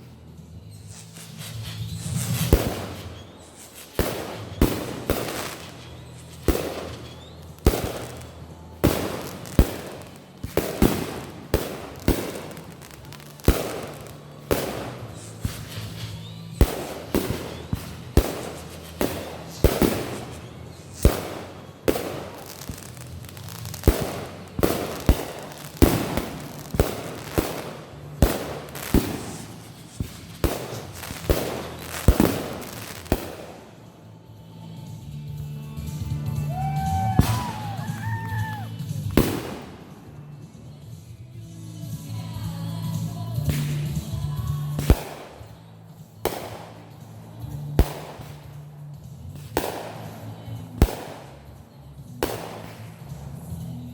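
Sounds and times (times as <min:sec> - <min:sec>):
fireworks bangs: 0:00.8 - 0:34.0, 0:36.6 - 0:41.0, 0:42.9 - 0:53.9.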